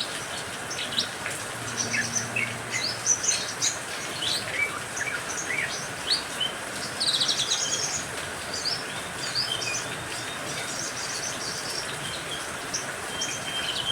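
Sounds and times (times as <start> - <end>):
rain hissing: 0.0 - 13.9
songbirds chirping and trilling: 0.0 - 13.9.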